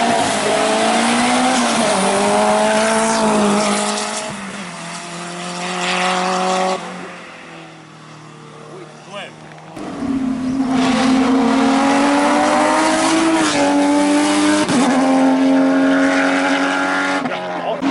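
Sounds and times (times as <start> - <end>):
car engine at full throttle: 0.0 - 17.9.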